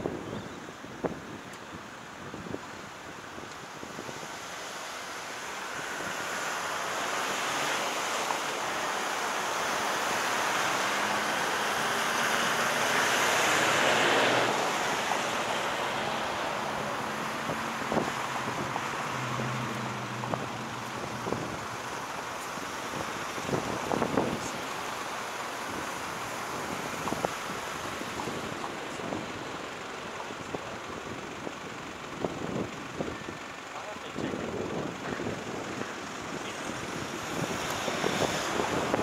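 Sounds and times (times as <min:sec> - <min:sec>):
traffic driving past: 0:02.4 - 0:39.0.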